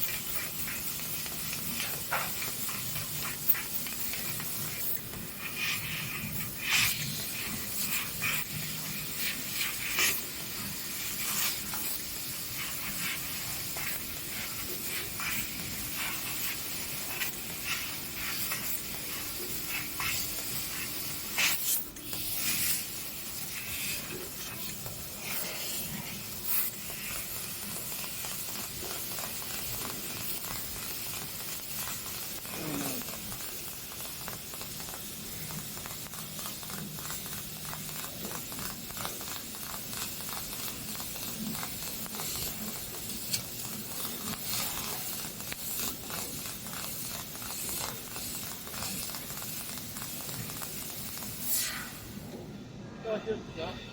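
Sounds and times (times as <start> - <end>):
hiss of assist gas: 0.0 - 27.8, 28.6 - 52.3
crackles from laser cut: 0.0 - 52.5.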